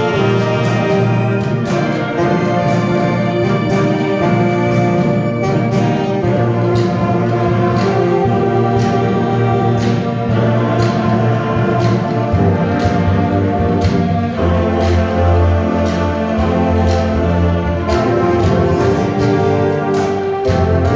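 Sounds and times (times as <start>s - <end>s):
brass chords: 0.0s - 20.9s
percussion beat: 0.0s - 20.9s.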